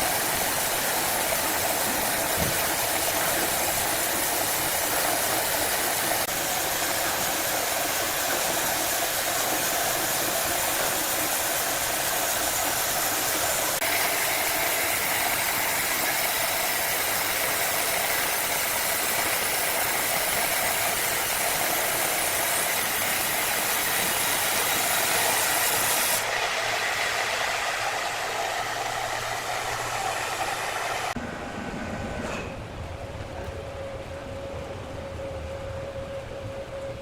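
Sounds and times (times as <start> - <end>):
power saw cutting wood: 0.0 - 31.2.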